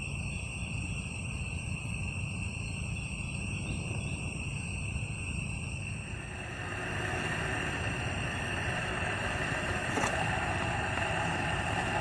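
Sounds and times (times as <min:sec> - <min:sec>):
night insects droning: 0:00.0 - 0:12.0
low steady rumble: 0:00.6 - 0:12.0.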